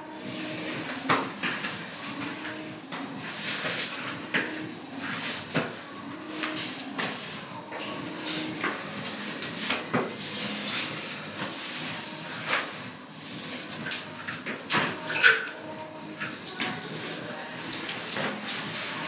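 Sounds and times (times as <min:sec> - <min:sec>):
clothes rustling: 0:00.1 - 0:19.0.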